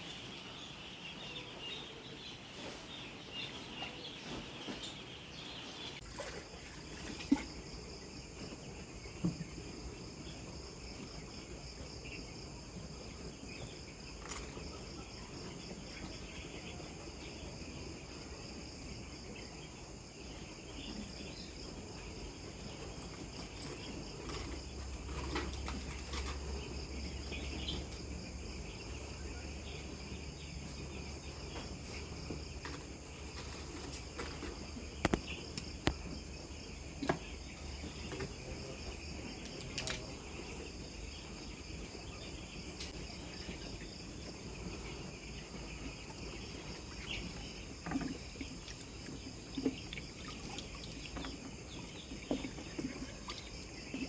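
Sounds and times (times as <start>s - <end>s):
insect chorus trilling: 6.4s - 54.0s.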